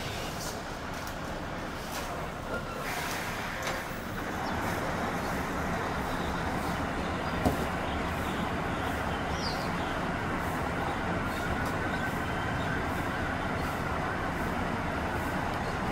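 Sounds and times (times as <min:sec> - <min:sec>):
diesel truck engine running: 0:00.0 - 0:15.9.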